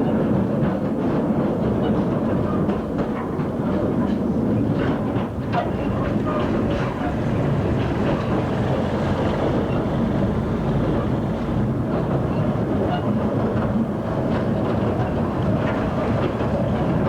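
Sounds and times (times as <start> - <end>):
train rumbling: 0.0 - 17.0
wheels clattering on rail joints: 0.2 - 17.0.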